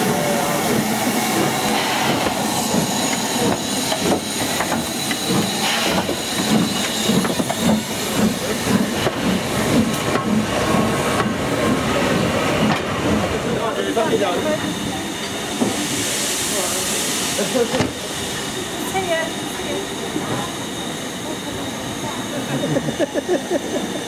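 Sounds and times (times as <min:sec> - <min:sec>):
steam hissing: 0:00.0 - 0:24.0
steam locomotive rolling past: 0:00.0 - 0:24.0.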